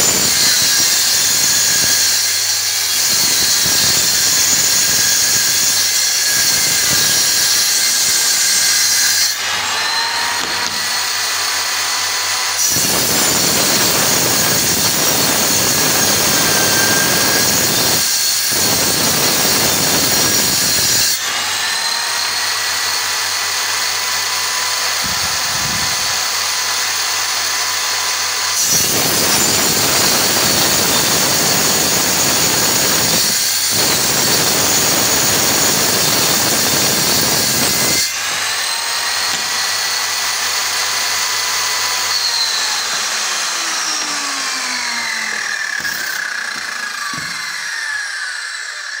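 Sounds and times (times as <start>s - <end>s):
circular saw cutting particleboard: 0.0s - 49.0s.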